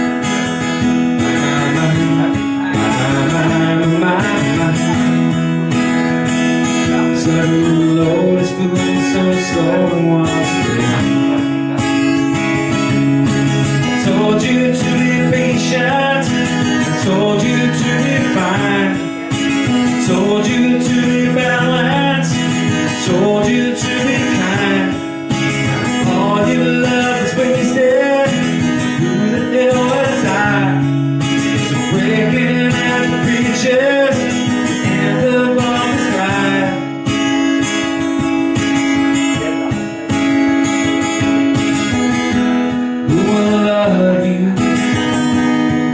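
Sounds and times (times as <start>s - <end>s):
strummed acoustic guitar: 0.0s - 45.9s.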